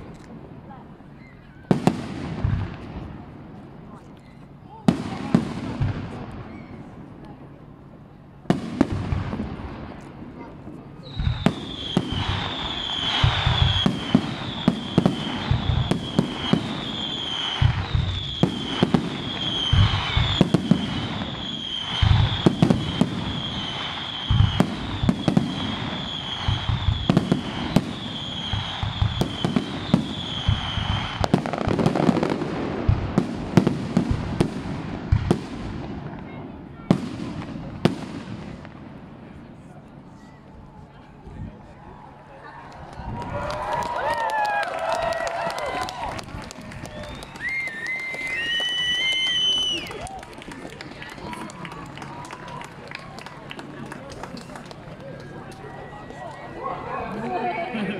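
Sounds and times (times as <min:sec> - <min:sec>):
fireworks bursting and crackling: 0:00.0 - 0:07.5, 0:08.4 - 0:40.1, 0:42.7 - 0:56.2.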